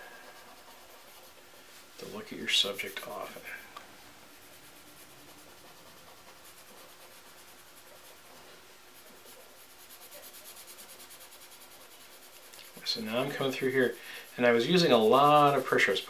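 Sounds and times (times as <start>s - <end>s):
blending stub rubbing on paper: 0.0s - 16.0s.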